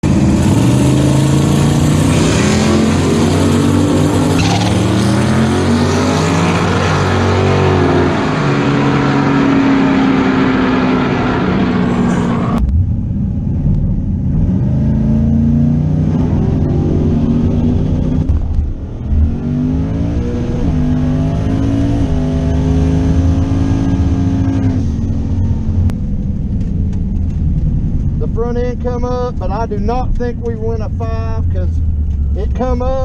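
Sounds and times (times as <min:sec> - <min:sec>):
turbocharged engine accelerating: 0:00.0 - 0:33.0.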